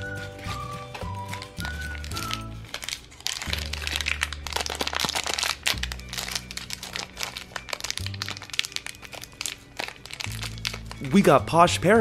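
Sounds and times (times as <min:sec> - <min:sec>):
background music: 0:00.0 - 0:12.0
plastic bag crinkling and tearing: 0:00.4 - 0:11.4.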